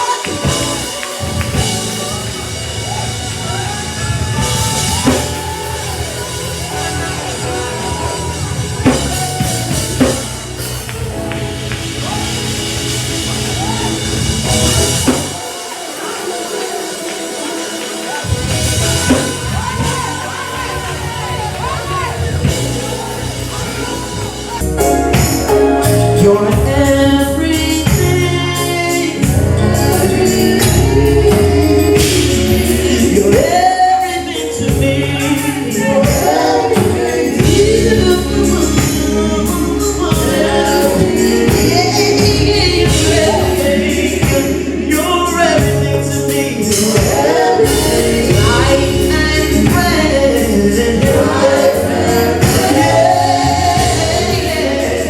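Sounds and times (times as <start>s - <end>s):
bass line: 0.0s - 15.4s, 18.3s - 55.0s
gospel singers with band: 0.0s - 55.0s.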